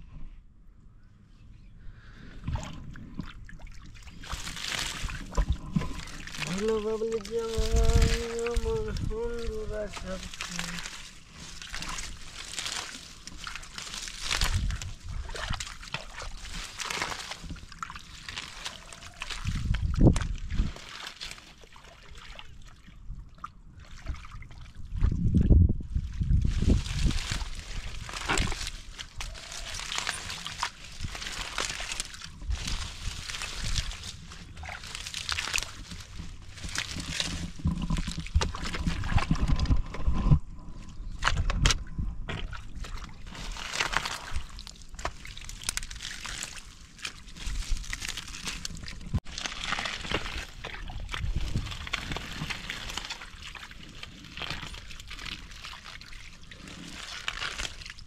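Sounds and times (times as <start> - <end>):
hands squelching through wet mud: 2.0 - 58.0
water sloshing and splashing: 2.3 - 58.0.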